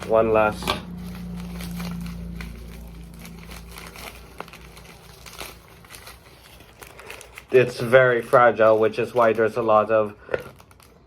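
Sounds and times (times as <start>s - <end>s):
electric fan hum: 0.0s - 10.3s
packaging crinkling and crackling: 0.0s - 11.0s.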